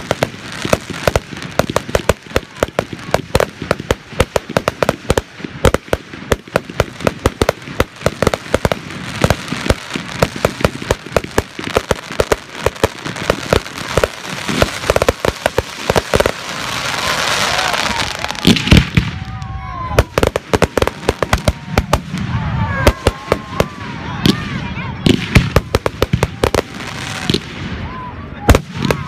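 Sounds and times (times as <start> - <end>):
crackling firework hiss: 0.0 - 27.8
firework bangs: 0.0 - 29.0.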